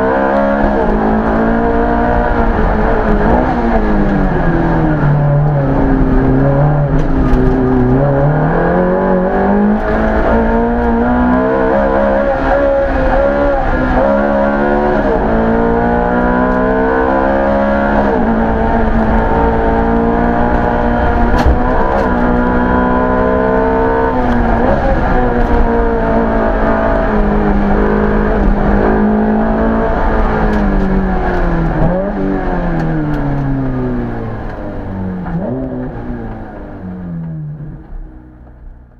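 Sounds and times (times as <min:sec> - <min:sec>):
race car engine revving: 0:00.0 - 0:38.7.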